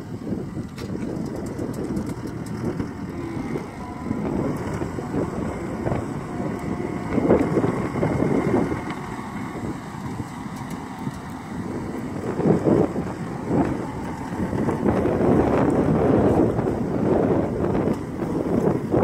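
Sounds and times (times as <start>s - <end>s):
diesel engine rumbling under load: 0.0s - 19.0s.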